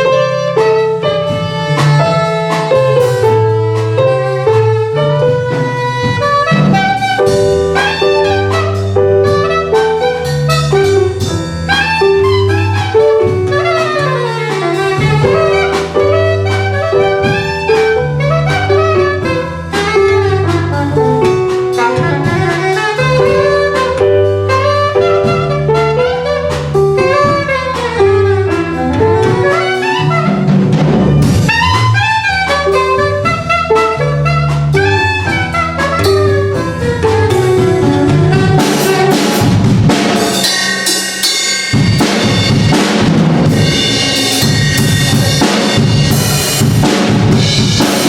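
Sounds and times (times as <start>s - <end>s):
live instrumental ensemble music: 0.0s - 48.0s.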